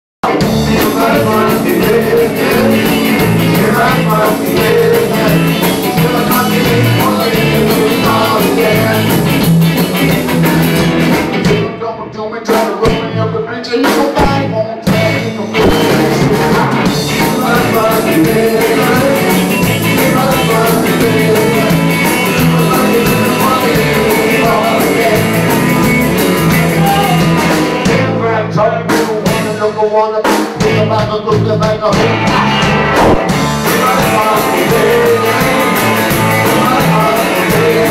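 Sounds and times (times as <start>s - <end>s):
electric guitars: 0.2s - 29.7s, 30.3s - 37.9s
drum kit: 0.2s - 37.9s.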